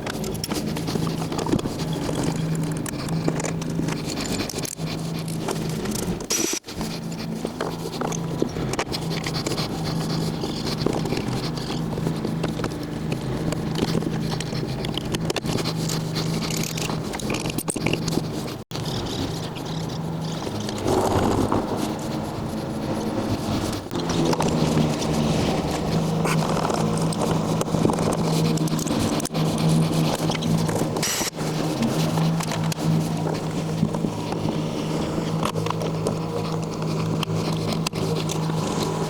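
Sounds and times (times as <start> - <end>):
tools scraping and clicking on metal: 0.0 - 39.0.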